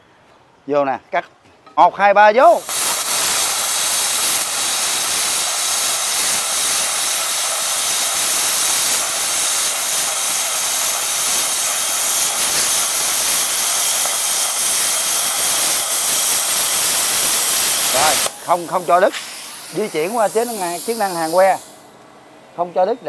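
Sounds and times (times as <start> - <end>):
plasma cutter hissing: 2.4 - 21.9.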